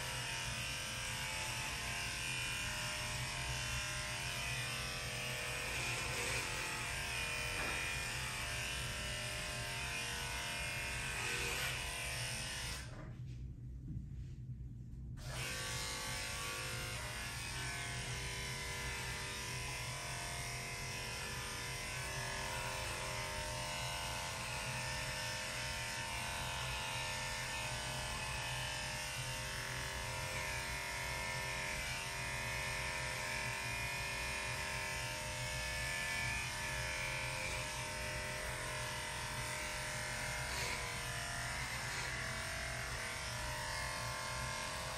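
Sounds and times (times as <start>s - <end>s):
electric clippers buzzing: 0.0s - 13.0s, 15.2s - 44.9s.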